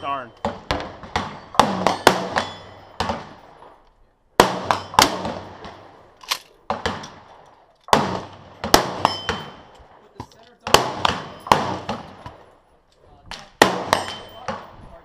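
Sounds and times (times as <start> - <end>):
shotguns firing with echo: 0.0 - 3.8, 4.4 - 12.6, 13.3 - 15.0.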